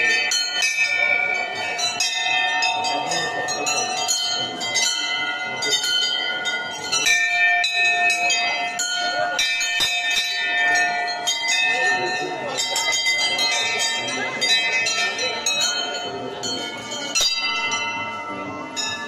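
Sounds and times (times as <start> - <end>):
bells ringing rapidly: 0.0 - 19.0.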